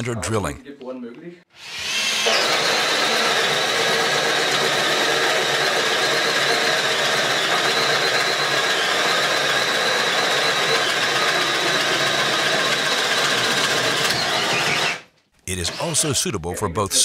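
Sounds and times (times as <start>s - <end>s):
electric drill boring into wood: 1.5s - 16.1s.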